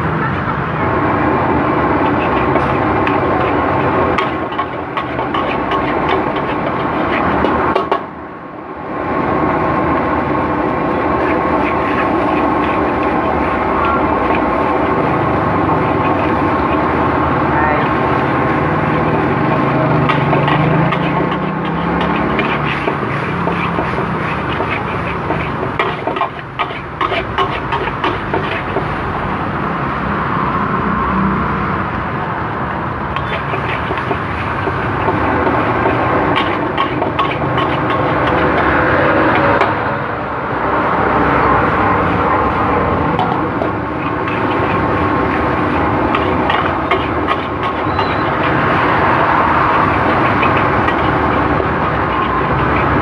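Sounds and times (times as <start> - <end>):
loud gas burner: 0.0 - 53.0
steady rushing background noise: 0.0 - 53.0
rice stir-frying in a wok: 0.1 - 53.0
metal spatula scraping a wok: 1.7 - 8.2, 9.0 - 29.4, 33.1 - 39.9, 40.5 - 53.0.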